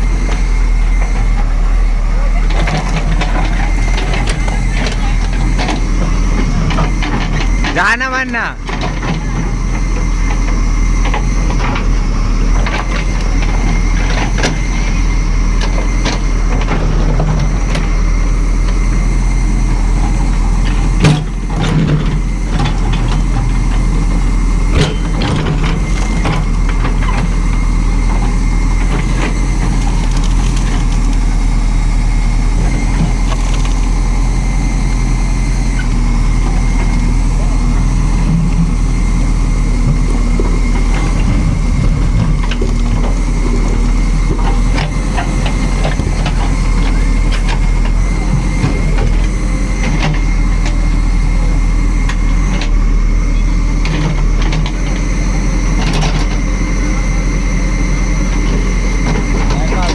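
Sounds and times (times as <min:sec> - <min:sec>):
heavy machine engine running: 0:00.0 - 0:59.9.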